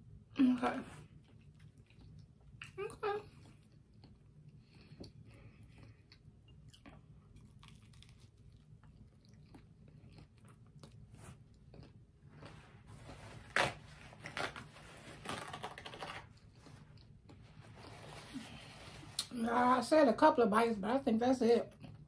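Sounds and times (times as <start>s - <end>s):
chewing with crunches: 0.9s - 14.6s, 15.3s - 19.3s, 21.7s - 22.0s.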